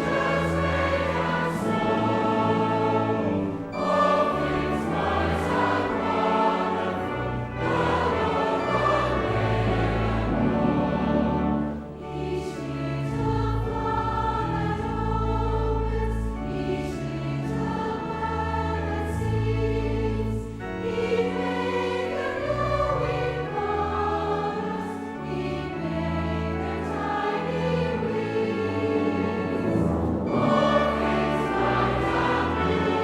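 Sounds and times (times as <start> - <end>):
choir singing sustained chords: 0.0 - 33.0.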